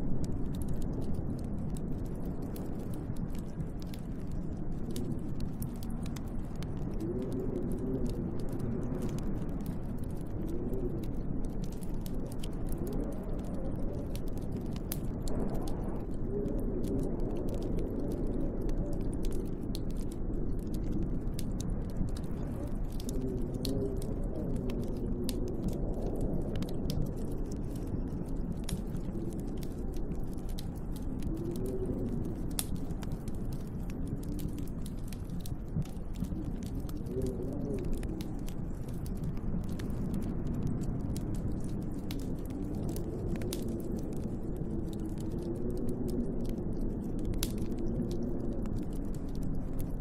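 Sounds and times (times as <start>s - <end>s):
howling wind: 0.0s - 50.0s
wood fire crackling: 0.0s - 50.0s.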